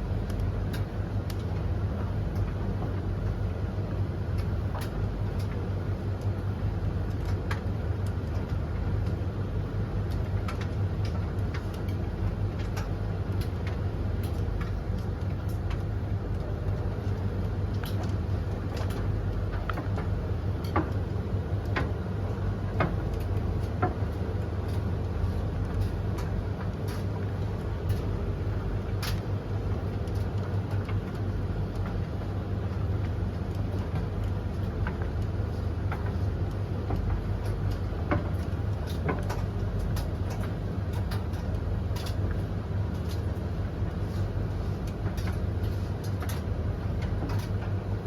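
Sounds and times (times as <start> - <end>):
tumble dryers humming: 0.0 - 48.0.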